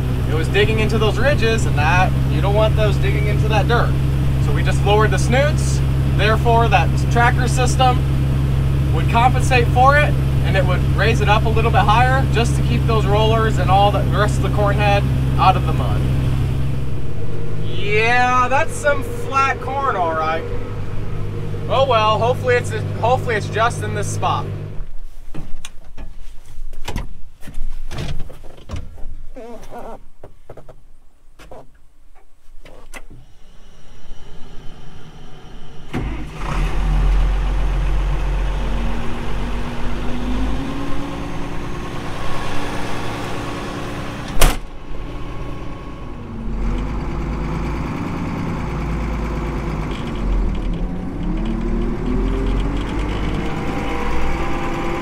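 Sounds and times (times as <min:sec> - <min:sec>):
tractor engine running: 0:00.0 - 0:25.0, 0:33.1 - 0:55.0.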